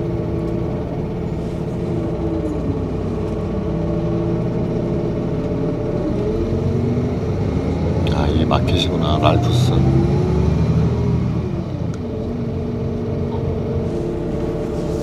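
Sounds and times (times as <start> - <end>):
bus engine: 0.0 - 15.0
low road rumble: 0.0 - 15.0.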